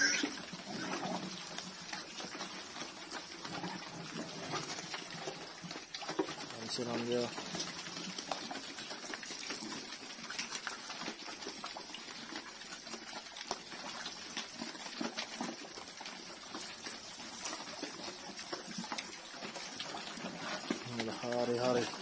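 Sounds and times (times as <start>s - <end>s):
pigs slurping and chomping feed: 0.0s - 22.0s.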